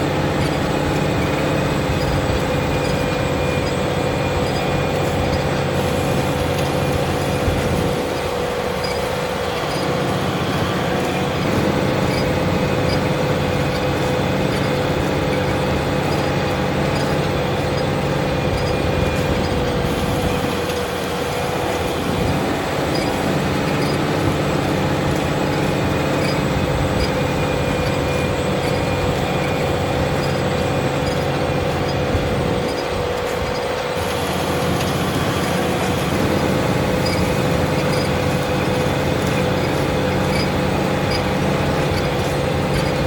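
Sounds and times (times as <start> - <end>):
steady whine: 0.0 - 43.0
tractor engine under load: 0.0 - 43.0.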